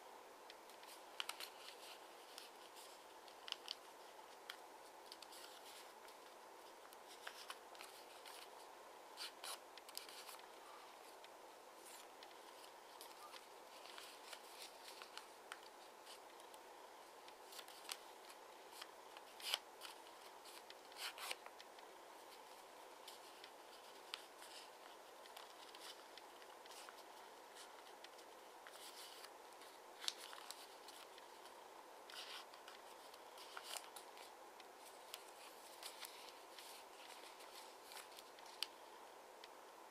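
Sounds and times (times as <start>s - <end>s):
quiet hiss: 0.0s - 39.9s
paper rustling and crinkling: 0.7s - 8.6s, 9.2s - 38.9s.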